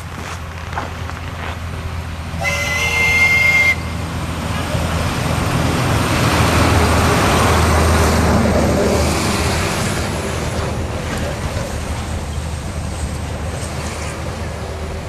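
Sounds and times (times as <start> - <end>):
steam train passing: 0.0 - 15.0.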